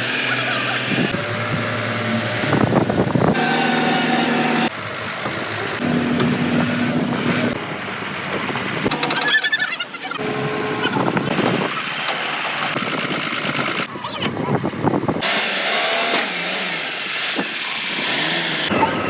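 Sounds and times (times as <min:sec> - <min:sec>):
diesel machinery running: 0:00.0 - 0:19.0.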